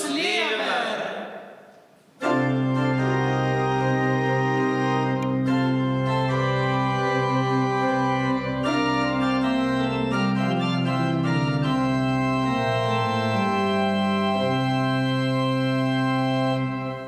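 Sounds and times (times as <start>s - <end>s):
pipe organ playing chords: 2.2s - 17.0s.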